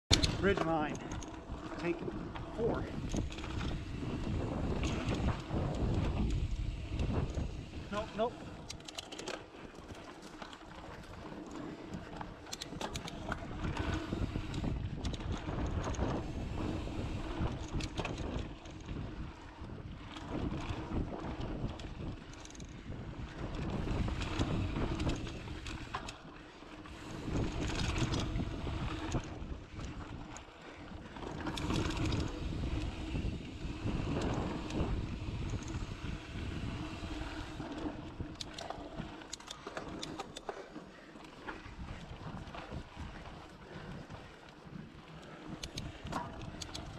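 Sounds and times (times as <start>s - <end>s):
wind buffeting microphone: 0.1s - 8.9s, 9.5s - 46.9s
bike clicks and rattles: 0.1s - 46.9s.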